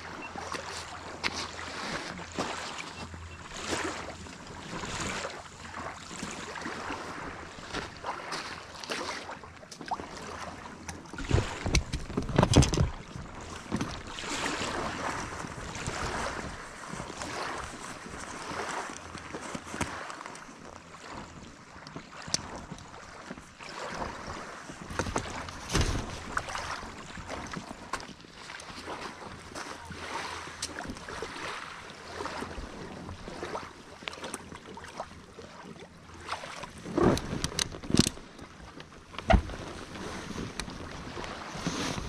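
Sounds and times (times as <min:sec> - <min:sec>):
water lapping against raft hull: 0:00.0 - 0:42.0.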